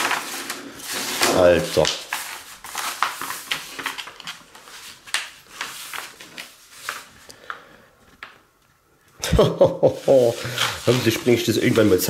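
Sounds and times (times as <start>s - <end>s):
paper rustling and crinkling: 0.0s - 8.4s, 9.8s - 12.0s.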